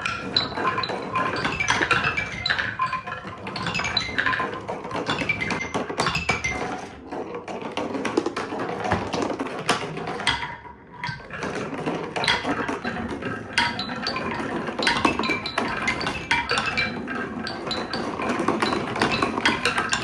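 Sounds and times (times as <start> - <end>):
marbles rattling down plastic track: 0.0 - 20.0.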